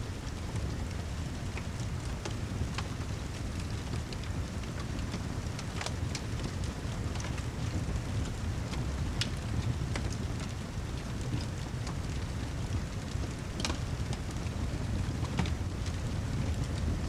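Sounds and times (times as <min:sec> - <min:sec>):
steady rain with low rumble: 0:00.0 - 0:17.0
fire crackling: 0:00.1 - 0:17.0.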